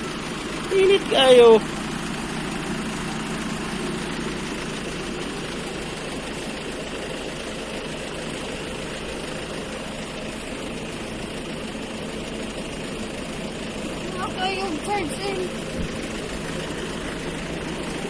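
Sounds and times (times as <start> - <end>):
motor running: 0.0 - 18.0.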